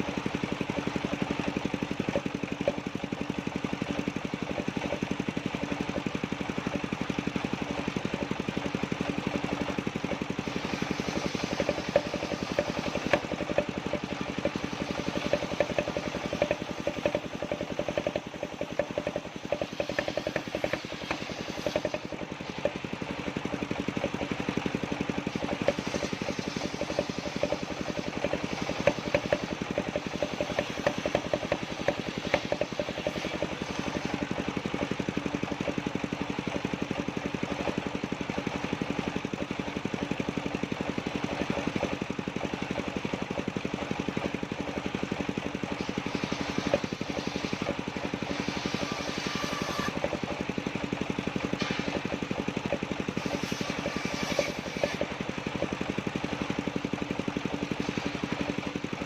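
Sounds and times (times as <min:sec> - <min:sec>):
sawmill engine running: 0:00.0 - 0:59.0
sharp clicks and rattles: 0:00.0 - 0:59.0.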